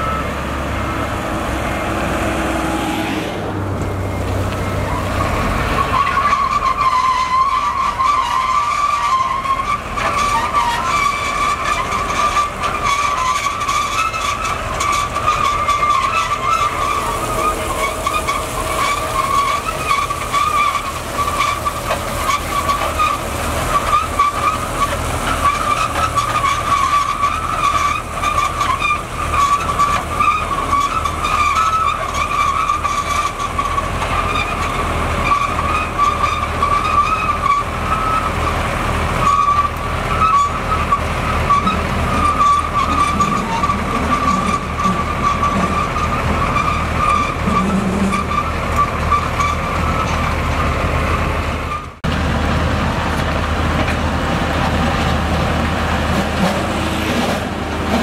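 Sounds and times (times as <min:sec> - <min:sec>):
diesel engine running under load: 0:00.0 - 0:58.0
low engine hum: 0:00.0 - 0:58.0.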